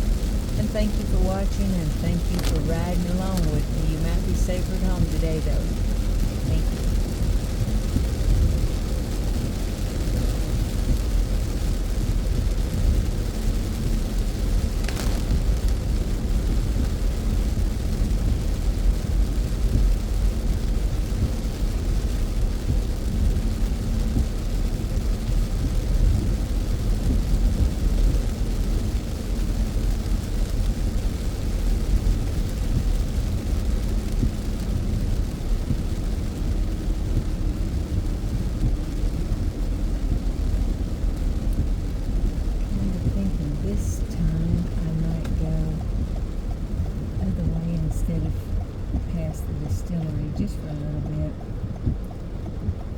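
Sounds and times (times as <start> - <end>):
tyre noise on wet road: 0.0 - 47.4
low car hum: 0.0 - 52.9
rain: 0.0 - 52.9.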